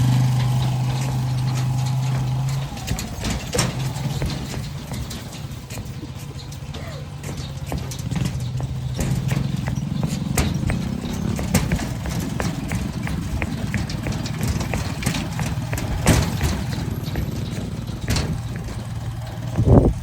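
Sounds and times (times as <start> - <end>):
bridge deck knocking and clattering: 0.0 - 20.0
motorcycle engine droning: 0.0 - 20.0.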